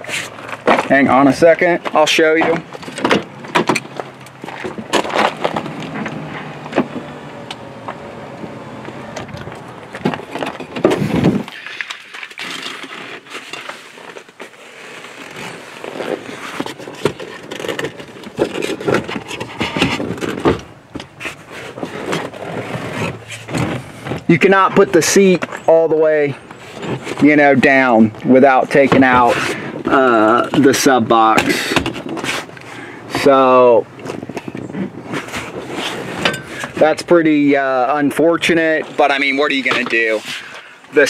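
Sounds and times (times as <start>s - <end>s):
truck door and seat scraping: 0.0s - 11.6s, 12.6s - 37.6s.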